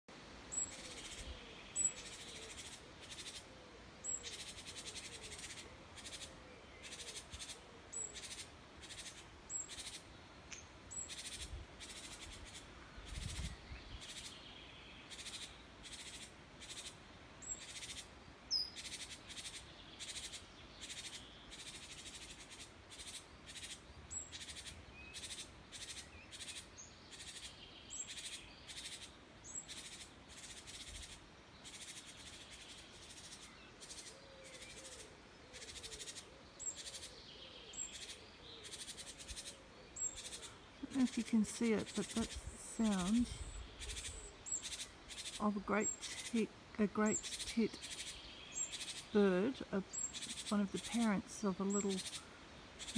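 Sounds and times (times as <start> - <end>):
great tit harsh calls: 0.5 - 10.1, 10.9 - 14.3, 15.0 - 52.9.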